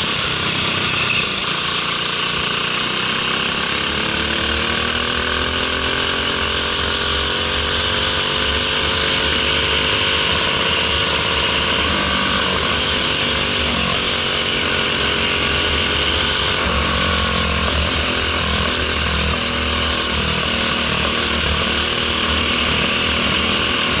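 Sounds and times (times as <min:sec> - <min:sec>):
kart engine revving: 0:00.0 - 0:24.0.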